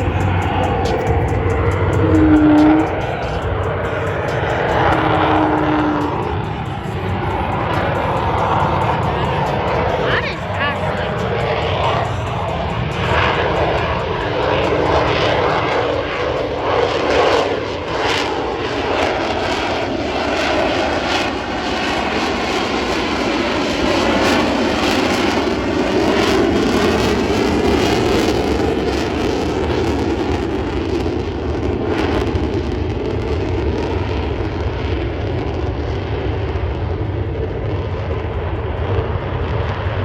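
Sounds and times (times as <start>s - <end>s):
airplane engine running: 0.0s - 40.0s.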